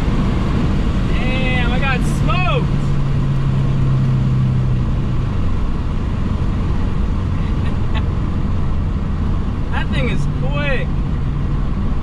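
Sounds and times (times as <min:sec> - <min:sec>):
car engine cabin drone: 0:00.0 - 0:12.0
road noise: 0:00.0 - 0:12.0.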